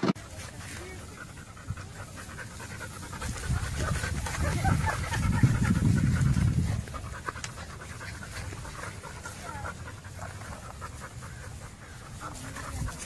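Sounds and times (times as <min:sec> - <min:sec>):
animal panting: 0:00.2 - 0:13.0.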